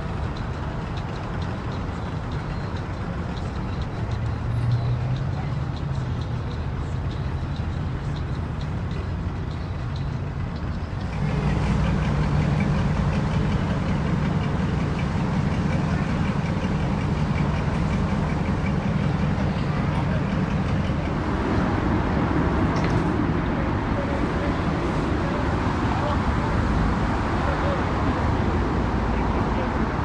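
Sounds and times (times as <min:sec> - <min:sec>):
engines running: 0:00.0 - 0:30.0
faint voices: 0:00.2 - 0:30.0.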